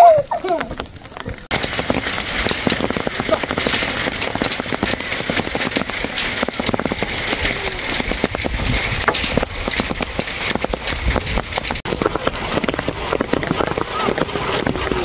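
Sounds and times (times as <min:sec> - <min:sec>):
hail clattering on hard surfaces: 0:00.6 - 0:15.0
rain hiss: 0:01.5 - 0:14.7.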